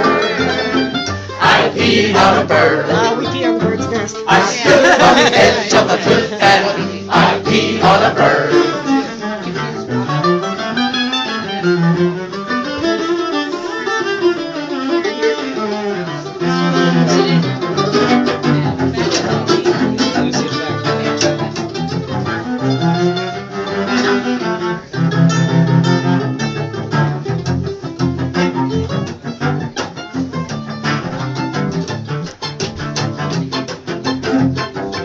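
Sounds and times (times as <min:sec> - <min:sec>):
cello melody: 0:00.0 - 0:35.0.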